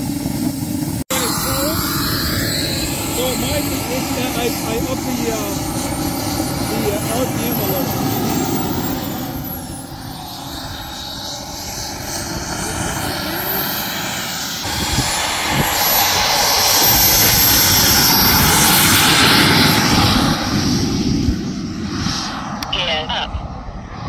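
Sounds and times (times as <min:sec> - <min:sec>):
model aircraft high whine: 0:00.0 - 0:24.0.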